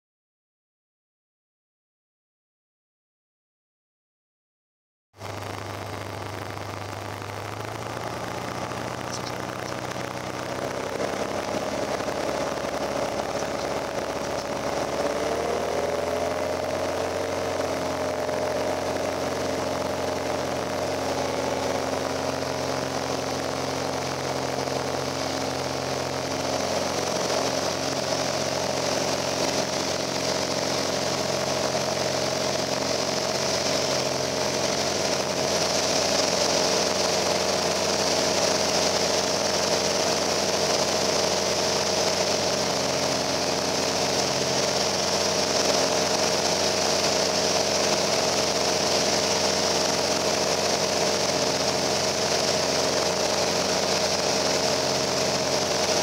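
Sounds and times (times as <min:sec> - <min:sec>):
propeller plane engine: 0:05.2 - 0:56.0.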